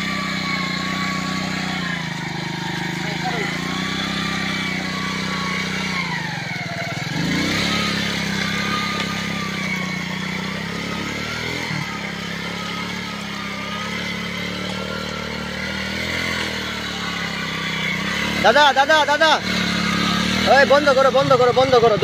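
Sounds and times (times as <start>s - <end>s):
small motorcycle engine under load: 0.0s - 22.0s.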